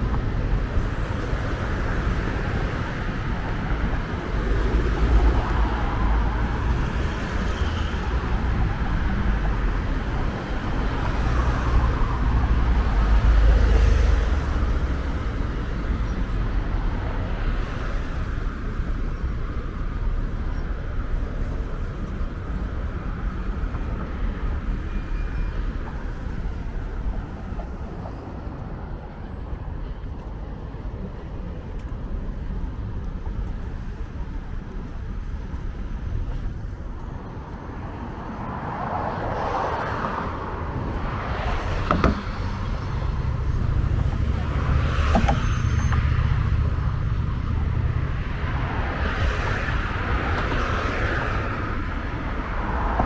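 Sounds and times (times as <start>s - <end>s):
rumble of passing cars: 0.0s - 53.0s.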